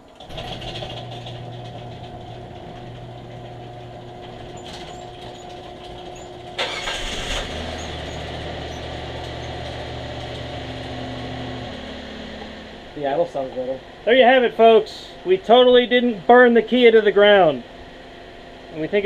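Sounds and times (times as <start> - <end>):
car engine starting and idling: 0.0 - 15.8
garage door opener motor humming: 0.0 - 15.9.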